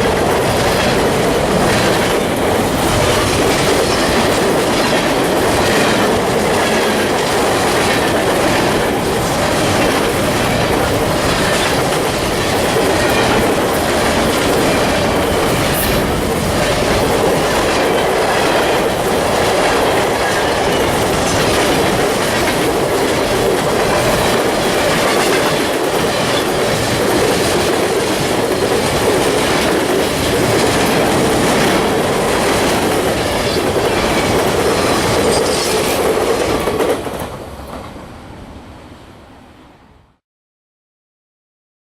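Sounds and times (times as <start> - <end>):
wheels clicking over rail joints: 0.0 - 38.0
freight train rumbling past: 0.0 - 40.0.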